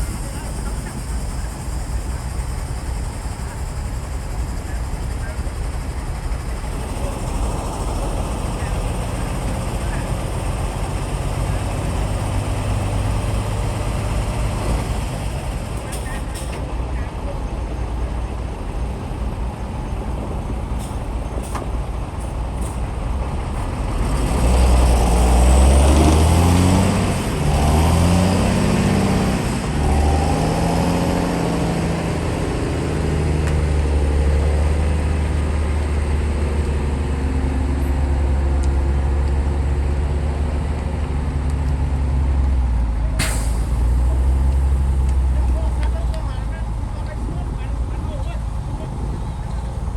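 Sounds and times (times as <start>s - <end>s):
heavy diesel engine revving: 0.0s - 49.9s.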